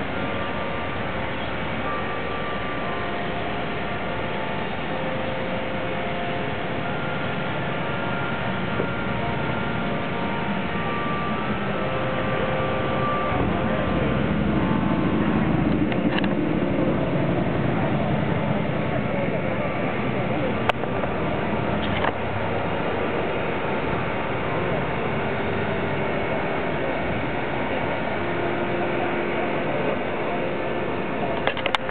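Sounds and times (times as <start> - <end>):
steam locomotive hissing: 0.0 - 31.4
faint steady tones: 0.0 - 31.9.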